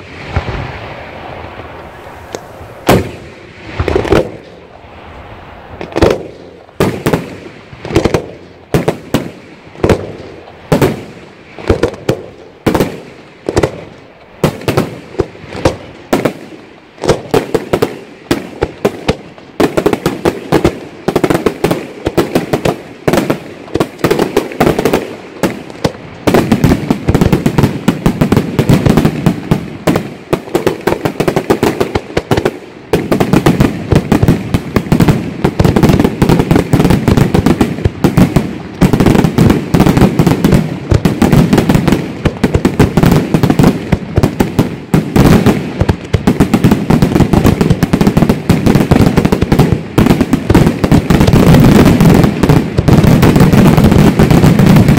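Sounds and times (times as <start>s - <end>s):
fireworks bursting bangs: 0.0s - 54.9s.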